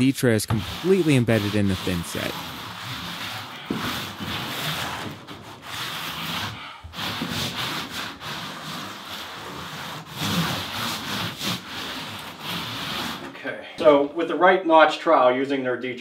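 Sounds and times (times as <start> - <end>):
tiling tool scraping floor: 0.5 - 13.4.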